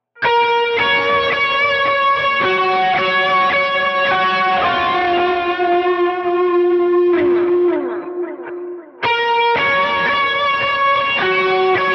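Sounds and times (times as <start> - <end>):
electric guitar slow melody: 0.0 - 11.9.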